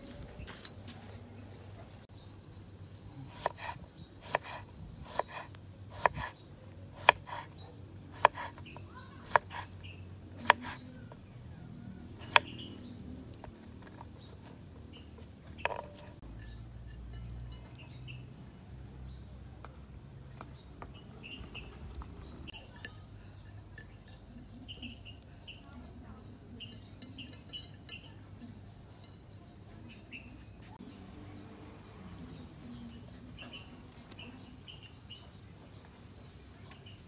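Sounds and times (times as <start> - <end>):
bird chirping: 0.0 - 19.3, 20.2 - 37.0.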